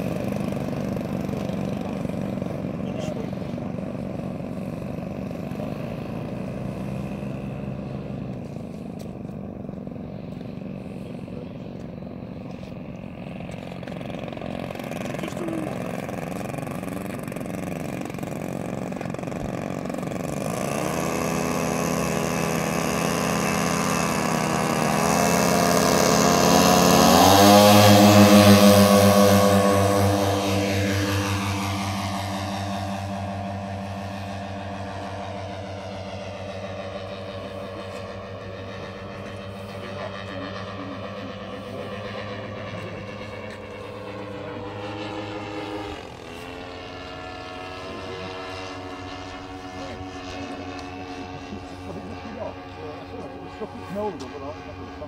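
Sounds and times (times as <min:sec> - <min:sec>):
model aircraft engines: 0:00.0 - 0:55.0.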